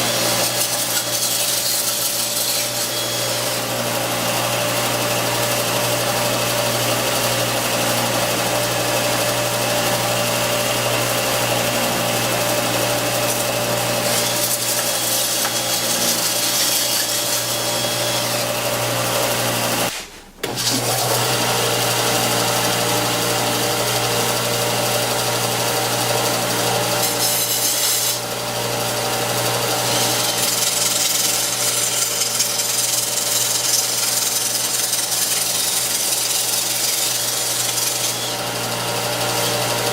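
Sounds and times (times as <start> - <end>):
belt sander running: 0.0 - 39.9
drill spinning wood against belt: 0.0 - 39.9.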